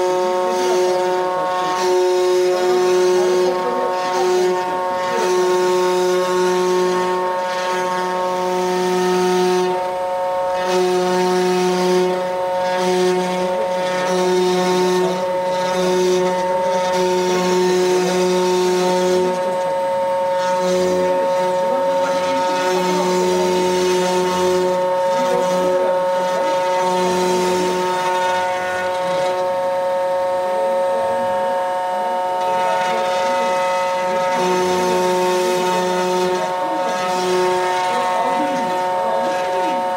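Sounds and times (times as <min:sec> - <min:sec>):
lower hum: 0:00.0 - 0:39.9
wood router machine whine: 0:00.0 - 0:39.9.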